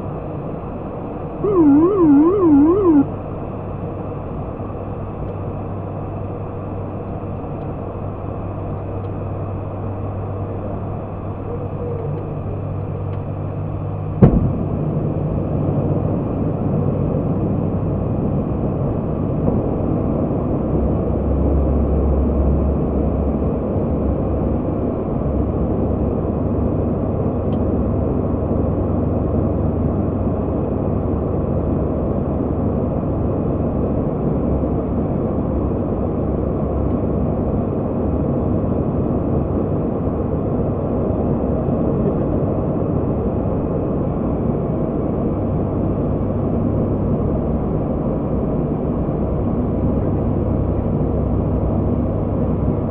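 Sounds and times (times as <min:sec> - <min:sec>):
turboprop engines droning: 0:00.0 - 0:52.9.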